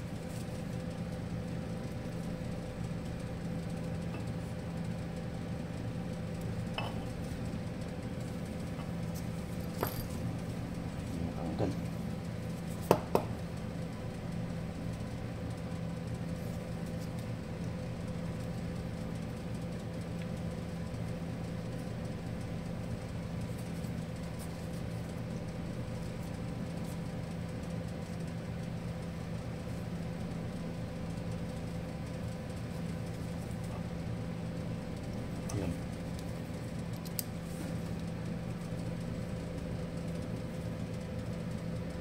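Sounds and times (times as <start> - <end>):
steady machine hum: 0.0 - 42.0.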